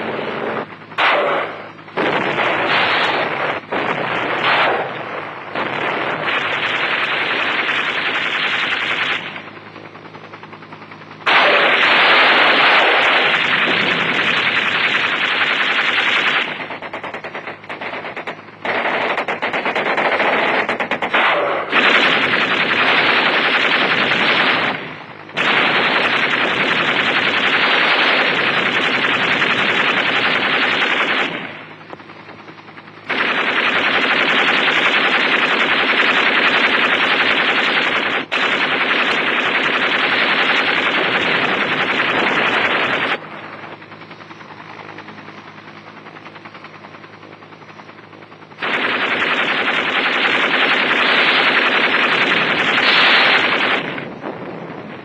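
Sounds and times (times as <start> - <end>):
helicopter drone: 0.0 - 55.0
machine guns firing bursts: 0.0 - 55.0.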